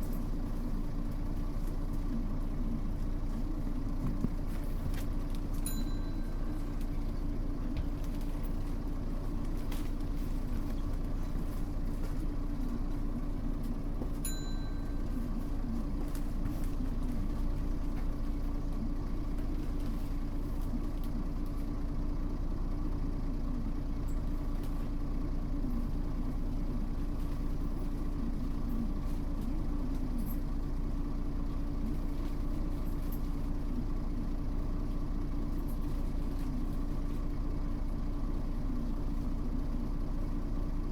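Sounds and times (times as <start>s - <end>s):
bus engine hum: 0.0s - 40.9s.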